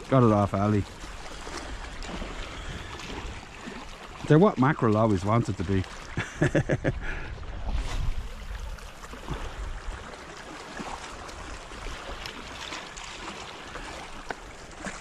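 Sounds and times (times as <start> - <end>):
faint splashes: 0.0 - 6.5, 7.2 - 15.0
waves lapping on rocks: 0.0 - 6.8, 7.6 - 15.0.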